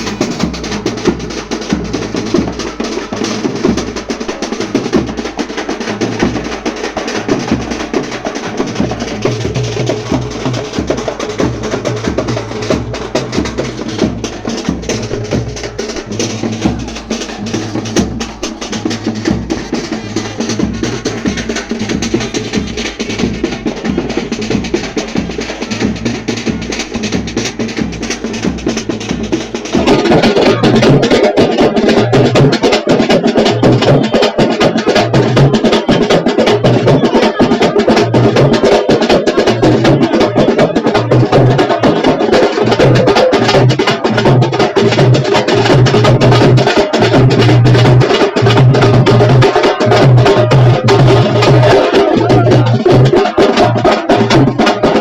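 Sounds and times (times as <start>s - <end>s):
fast percussion music: 0.0s - 55.0s.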